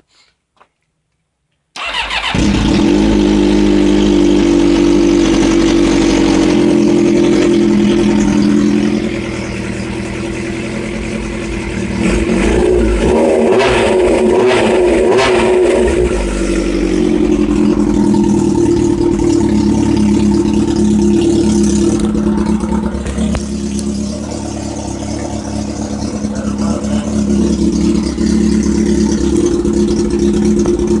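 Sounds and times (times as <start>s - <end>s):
motorcycle engine running: 1.9s - 31.0s.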